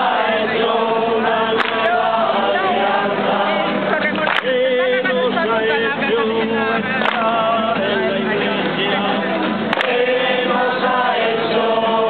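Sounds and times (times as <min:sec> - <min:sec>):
group singing in chorus: 0:00.0 - 0:12.0.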